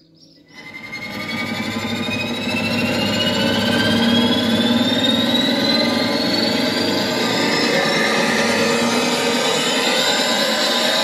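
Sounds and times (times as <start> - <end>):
high rising tone: 0.5 - 11.0.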